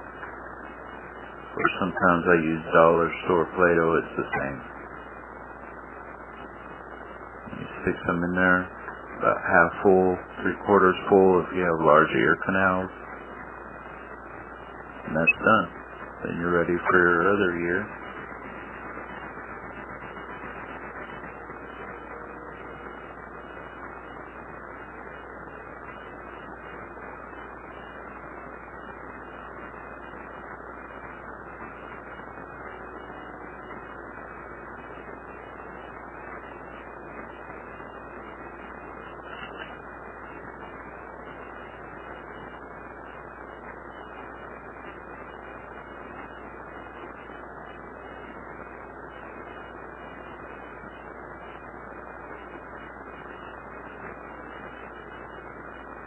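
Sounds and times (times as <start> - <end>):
background hiss and hum: 0.0 - 56.0.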